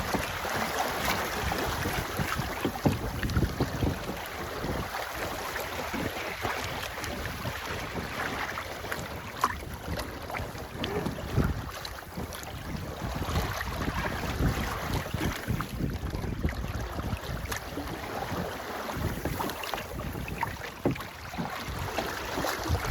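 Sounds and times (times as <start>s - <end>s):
water rushing: 0.0s - 22.9s
wind buffeting microphone: 0.0s - 22.9s.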